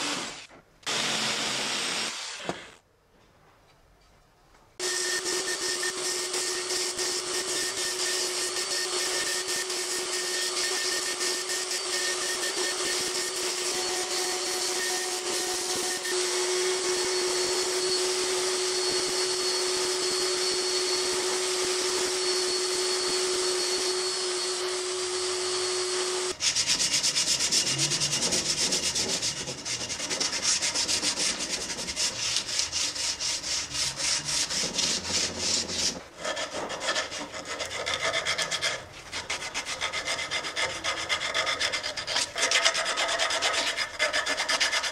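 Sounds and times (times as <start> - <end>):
angle grinder sanding wood: 4.8 - 44.9.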